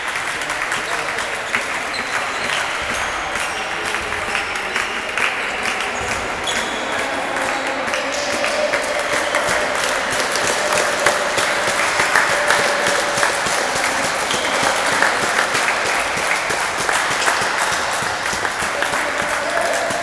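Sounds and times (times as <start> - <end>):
applause: 0.0 - 20.0.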